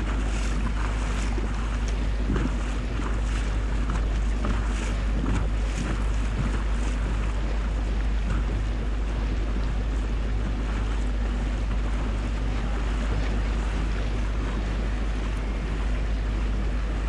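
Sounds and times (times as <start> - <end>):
faint low engine hum: 0.0 - 17.0
water noise: 0.0 - 17.0
wind rumble on microphone: 0.0 - 17.0.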